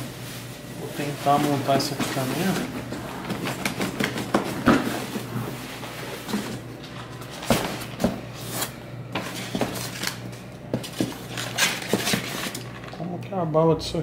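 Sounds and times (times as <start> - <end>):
cardboard rustling and scraping: 0.0 - 12.9.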